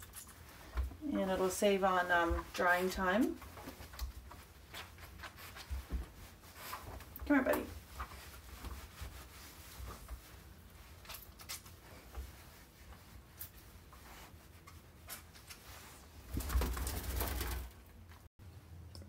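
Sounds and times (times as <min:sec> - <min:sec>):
chamois rubbing wet dog coat: 0:00.0 - 0:16.3.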